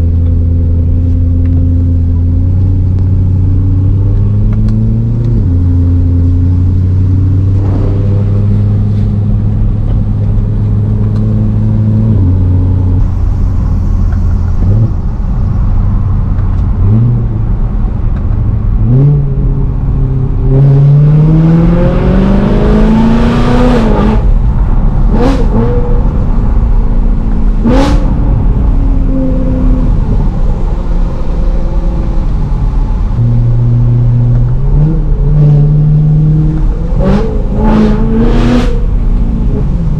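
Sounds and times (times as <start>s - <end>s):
car engine cruising and revving: 0.0s - 39.9s.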